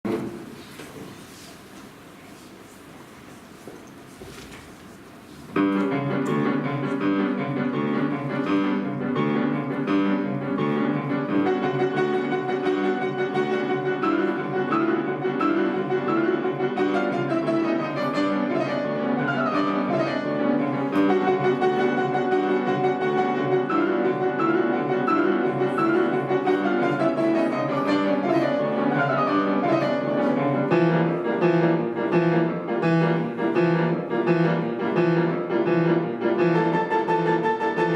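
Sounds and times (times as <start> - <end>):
piano duo playing classical piece: 0.1 - 37.9.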